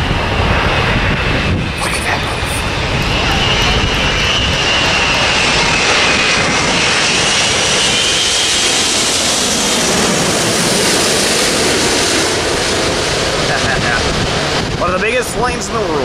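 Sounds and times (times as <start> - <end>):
jet airliner roar overhead: 0.0 - 16.0
jet engine whine: 0.0 - 16.0.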